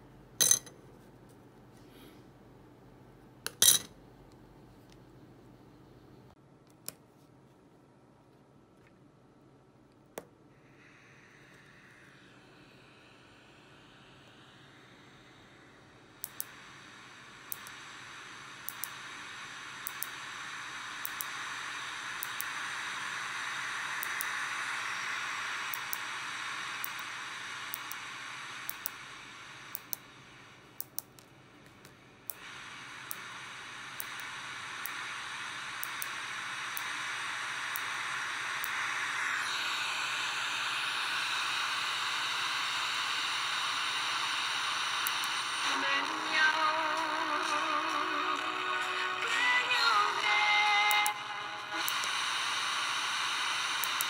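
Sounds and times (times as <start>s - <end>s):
radio static hiss: 10.7s - 54.0s.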